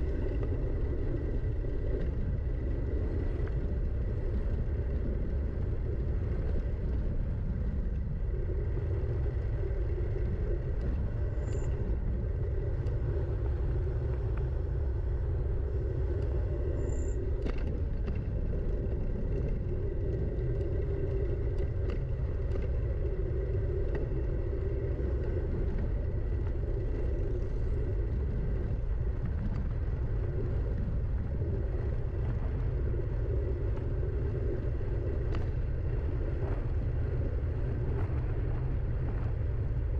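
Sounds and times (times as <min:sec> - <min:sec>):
wind and ride rumble: 0:00.0 - 0:39.9.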